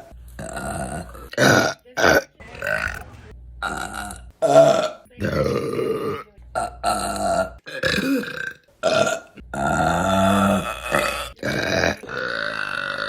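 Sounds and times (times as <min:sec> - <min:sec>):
women burping: 0:00.0 - 0:03.0, 0:03.6 - 0:13.0.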